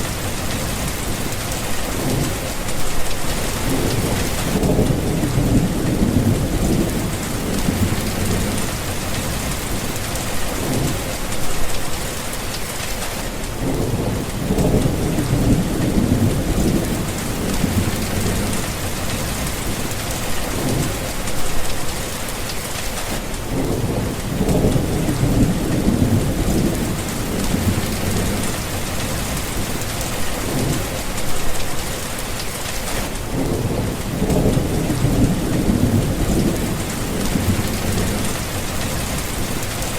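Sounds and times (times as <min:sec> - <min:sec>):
low rolling thunder: 0:00.0 - 0:12.0, 0:13.6 - 0:22.0, 0:23.4 - 0:31.6, 0:33.1 - 0:39.9
heavy rain hissing: 0:00.0 - 0:39.9.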